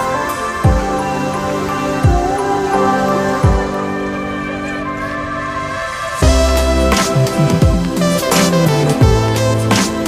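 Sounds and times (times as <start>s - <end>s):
background music with bass and beat: 0.0s - 10.0s.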